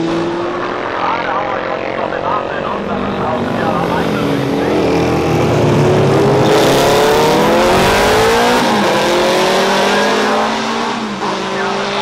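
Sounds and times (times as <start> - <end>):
motorcycles accelerating hard: 0.0 - 12.0.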